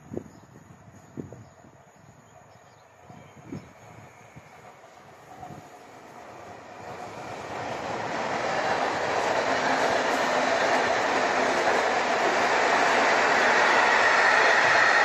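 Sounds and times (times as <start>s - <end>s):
passenger train passing: 0.6s - 15.0s.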